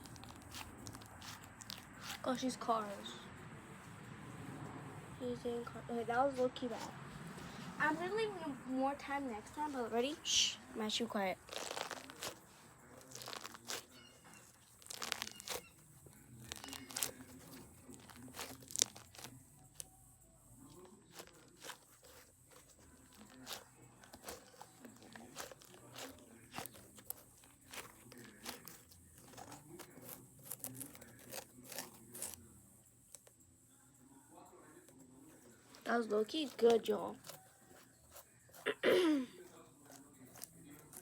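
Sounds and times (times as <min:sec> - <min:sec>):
wax crackling on squeezed toy: 0:00.0 - 0:03.8, 0:09.4 - 0:33.4, 0:34.8 - 0:41.0.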